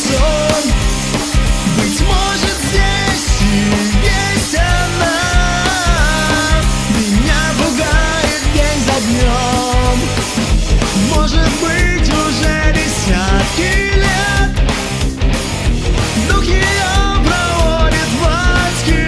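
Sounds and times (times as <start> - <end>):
bending lead guitar melody: 0.0 - 19.0
rock band playing: 0.0 - 19.0.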